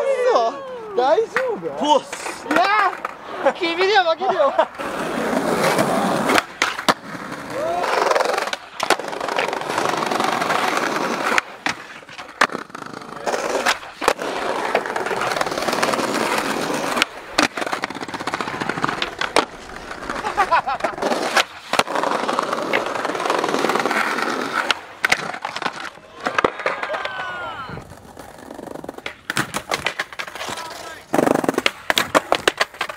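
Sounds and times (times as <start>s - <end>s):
skateboard wheels rolling on tiles: 1.2s - 32.9s
skateboard wooden clacks: 1.3s - 3.2s, 5.6s - 32.9s
skateboard sliding on brick ledge: 1.4s - 32.9s.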